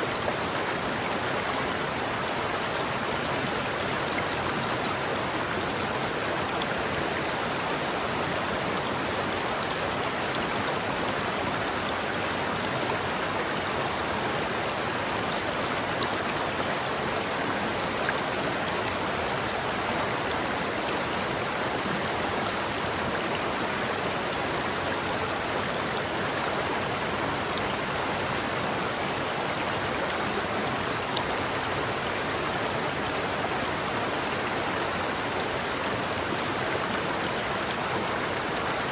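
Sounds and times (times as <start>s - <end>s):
river water rushing and babbling: 0.0s - 38.9s.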